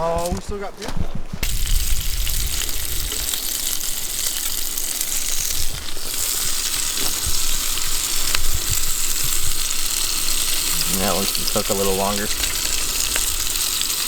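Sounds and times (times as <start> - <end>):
food sizzling in a frying pan: 1.4 - 14.0.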